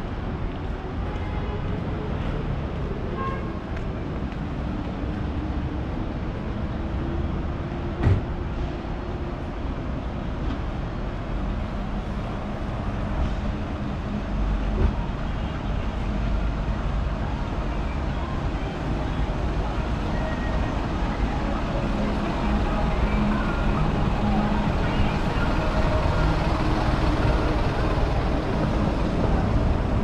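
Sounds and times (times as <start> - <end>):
city street traffic rumble: 0.0 - 30.0.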